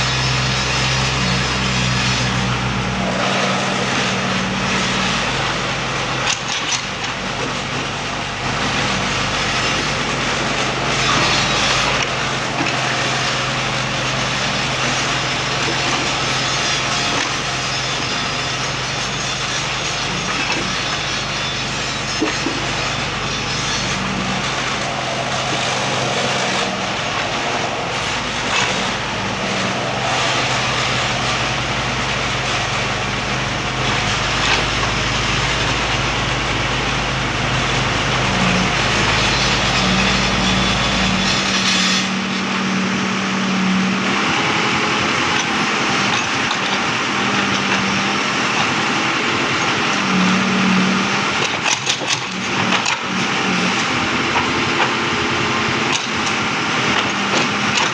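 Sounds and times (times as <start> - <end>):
backhoe engine running: 0.0 - 57.9.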